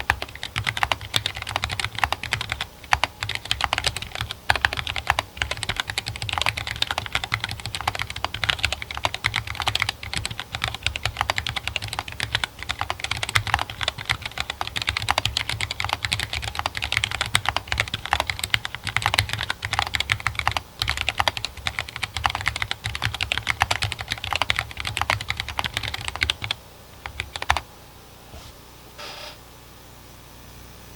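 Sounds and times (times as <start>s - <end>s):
mechanical keyboard typing: 0.0s - 27.6s.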